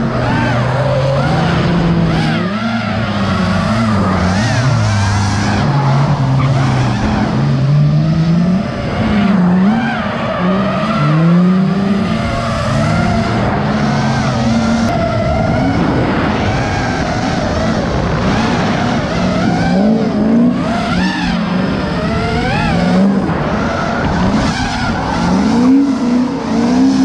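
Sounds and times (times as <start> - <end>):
car engines revving: 0.0 - 27.0
racing drone motors whining: 0.0 - 27.0.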